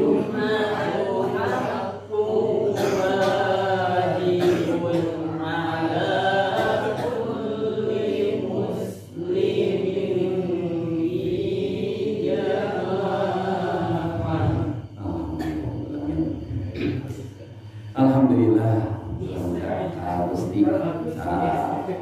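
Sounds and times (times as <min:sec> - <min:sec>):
man chanting recitation: 0:00.0 - 0:17.2, 0:17.8 - 0:22.0.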